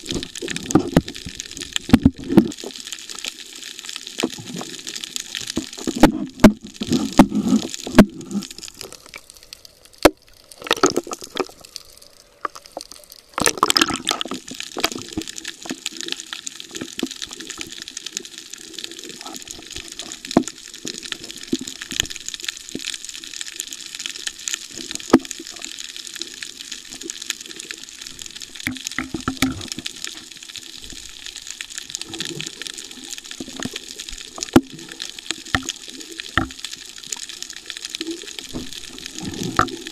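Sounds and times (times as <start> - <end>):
water sloshing and gushing: 0.0 - 39.9.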